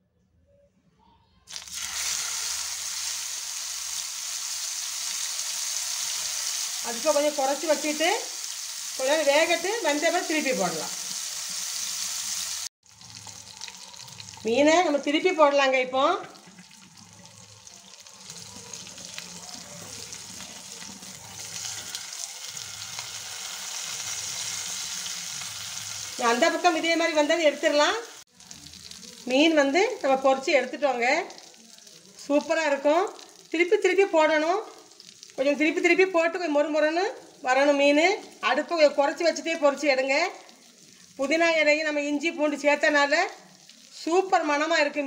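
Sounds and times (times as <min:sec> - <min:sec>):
fish sizzling in hot oil: 0:01.5 - 0:15.2, 0:16.3 - 0:44.7.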